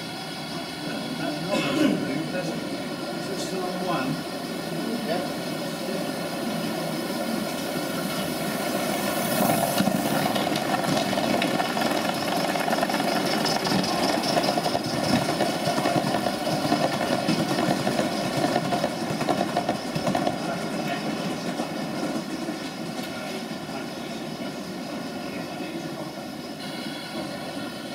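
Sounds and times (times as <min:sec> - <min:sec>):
model train wheels rumbling on rail: 0:00.0 - 0:27.9.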